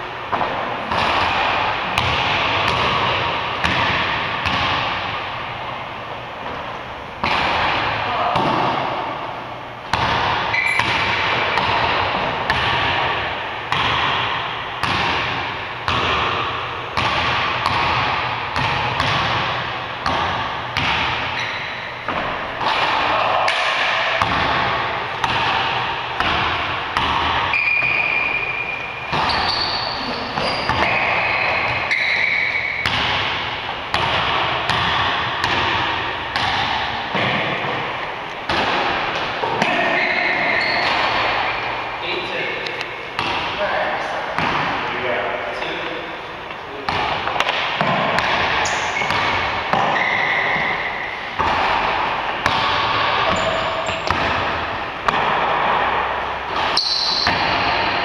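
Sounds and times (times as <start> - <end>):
sneakers squeaking: 0.0 - 58.0
basketball bouncing on wood floor: 0.3 - 5.1, 9.9 - 23.0, 23.6 - 28.4, 29.0 - 37.9, 38.5 - 41.6, 43.2 - 43.6, 44.4 - 44.8, 46.9 - 58.0.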